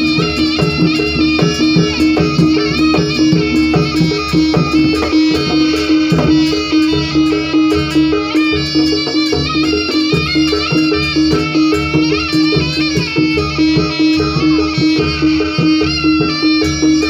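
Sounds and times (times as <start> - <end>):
reedy wind melody: 0.0 - 17.0.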